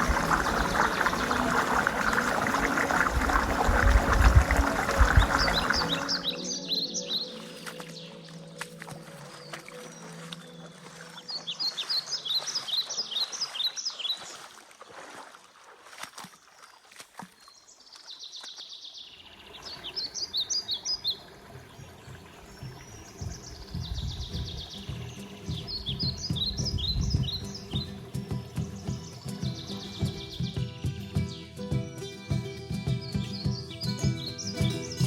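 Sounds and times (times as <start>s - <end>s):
small songbird singing: 0.0s - 14.4s, 17.4s - 35.0s.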